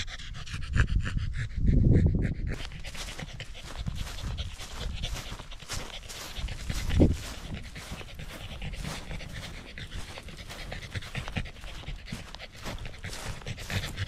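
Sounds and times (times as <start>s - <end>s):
dog panting quickly: 0.0s - 14.0s.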